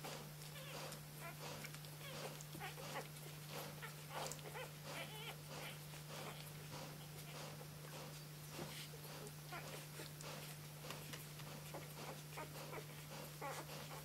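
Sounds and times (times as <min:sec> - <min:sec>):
puppies squeaking and grunting: 0:00.0 - 0:14.0
steady low hum: 0:00.0 - 0:14.0.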